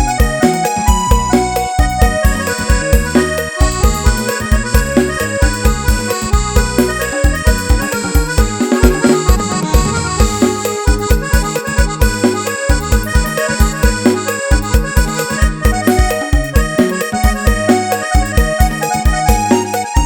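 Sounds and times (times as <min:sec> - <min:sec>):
electronic organ melody: 0:00.0 - 0:20.0
heavy bass: 0:00.0 - 0:20.0
steady kick beat: 0:00.0 - 0:20.0.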